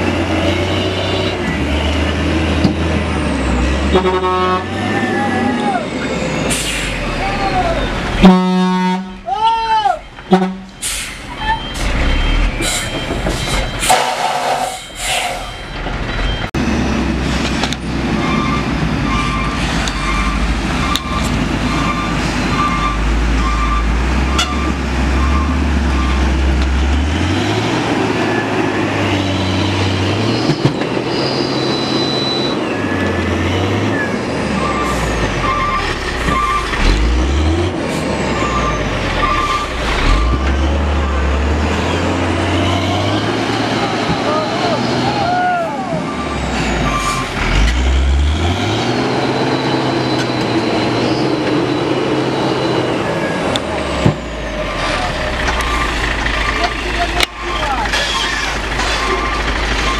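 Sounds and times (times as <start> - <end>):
diesel truck engine labouring: 0.0 - 59.9.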